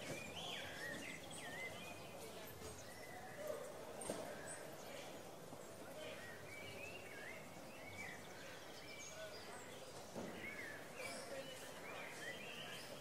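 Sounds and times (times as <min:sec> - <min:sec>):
murmur of distant voices: 0:00.0 - 0:13.0
small birds chirping: 0:00.0 - 0:13.0.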